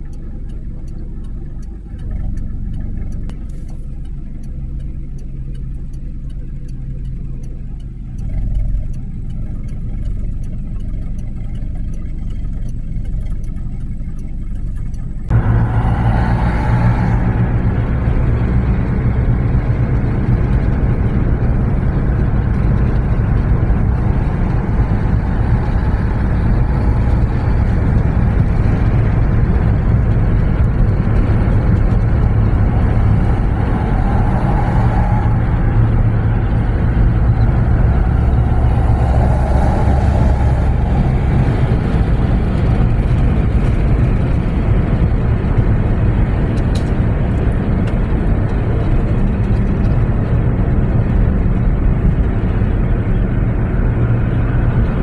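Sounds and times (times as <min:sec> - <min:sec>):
car road noise from cabin: 0:00.0 - 0:55.0.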